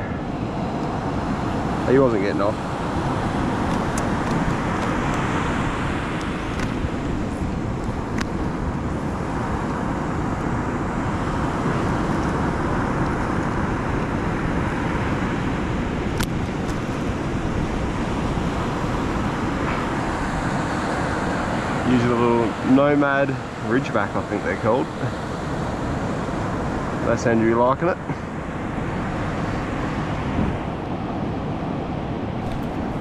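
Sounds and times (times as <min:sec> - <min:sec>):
ocean surf breaking on beach: 0:00.0 - 0:33.0.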